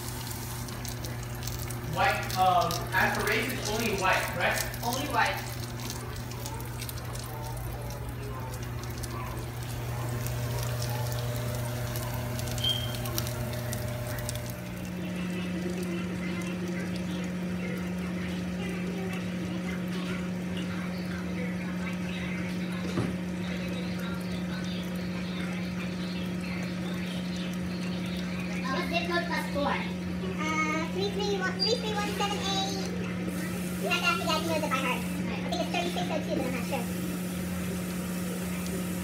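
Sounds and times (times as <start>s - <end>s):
higher steady hum: 0.0s - 39.0s
steady low hum: 0.0s - 39.0s.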